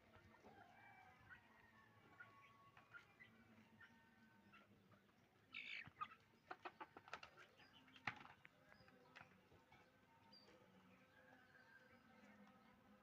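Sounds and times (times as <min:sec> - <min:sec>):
chickens clucking: 0:00.0 - 0:12.8.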